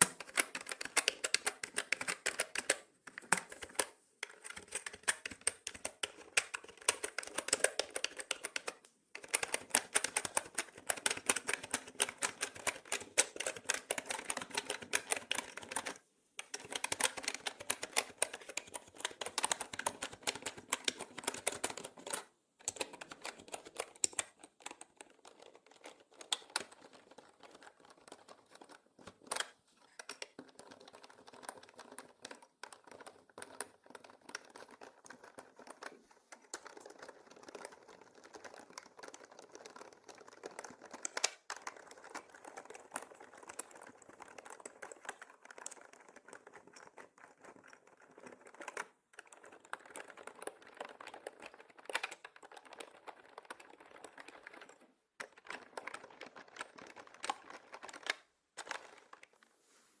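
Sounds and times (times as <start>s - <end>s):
fast typing on mechanical keyboard: 0.0s - 59.3s.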